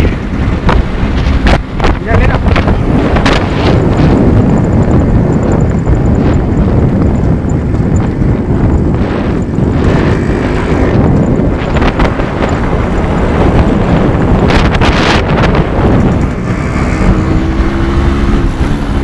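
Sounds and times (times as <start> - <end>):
two-stroke motorcycle engine running: 0.0 - 19.0
wind buffeting microphone: 0.0 - 19.0.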